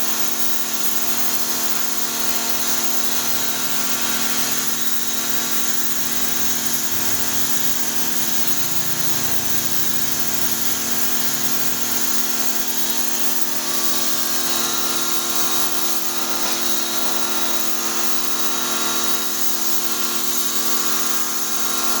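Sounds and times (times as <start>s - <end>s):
pressure washer running: 0.0s - 22.0s.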